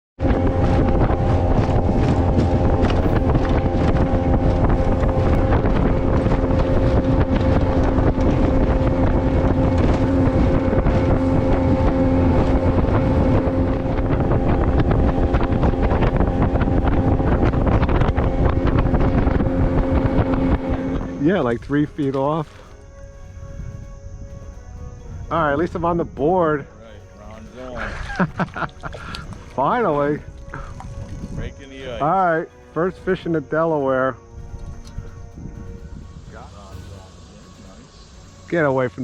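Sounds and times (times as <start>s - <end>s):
boat motor running: 0.2s - 39.0s
wind buffeting microphone: 0.2s - 39.0s.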